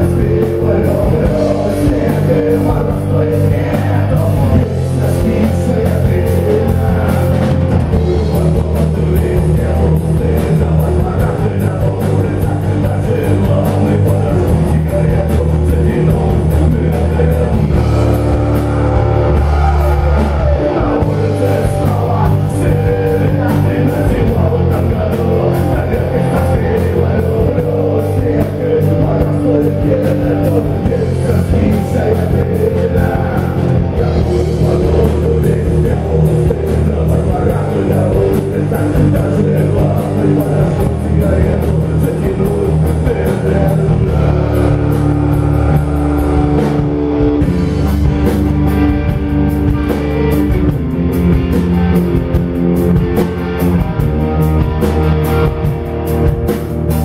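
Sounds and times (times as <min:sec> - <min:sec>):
person singing: 0:00.0 - 0:50.9
rock band playing live: 0:00.0 - 0:57.0.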